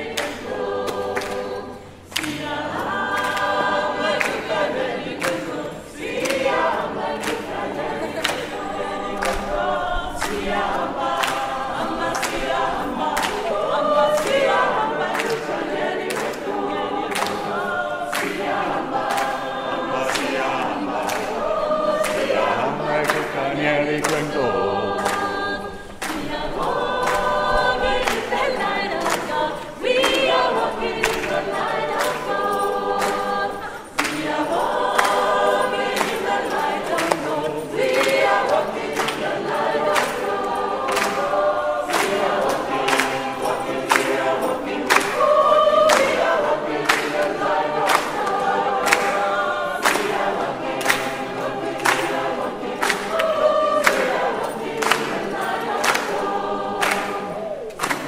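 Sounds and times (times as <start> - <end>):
mixed choir singing a cappella: 0.0 - 58.0
rhythmic hand-clapping: 0.0 - 58.0.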